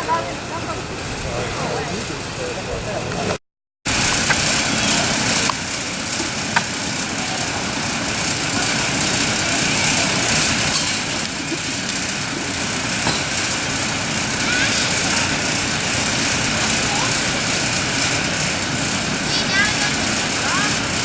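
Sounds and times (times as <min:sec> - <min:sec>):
constant rushing noise: 0:00.0 - 0:21.0
small vehicle engine running: 0:00.0 - 0:21.0.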